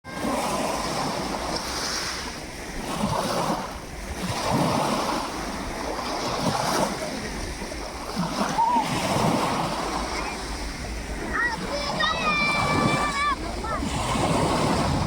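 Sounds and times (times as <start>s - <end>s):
sea waves washing in: 0.1s - 15.0s
wind buffeting microphone: 0.2s - 15.0s.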